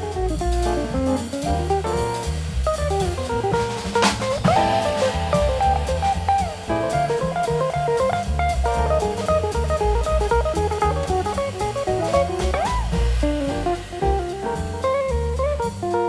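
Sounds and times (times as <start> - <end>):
instrumental guitar music: 3.0 - 16.0.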